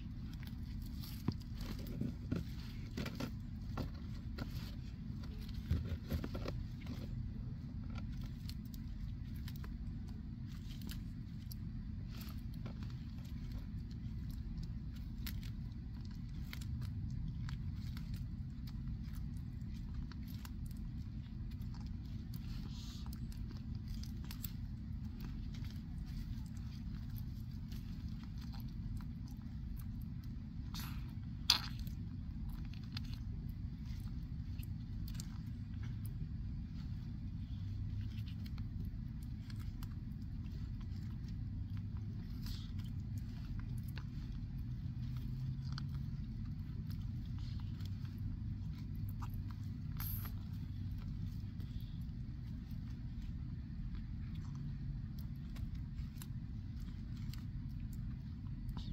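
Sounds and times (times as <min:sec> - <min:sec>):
steady low rumble: 0:00.0 - 0:58.9
tortoises chewing greens: 0:00.0 - 0:58.9.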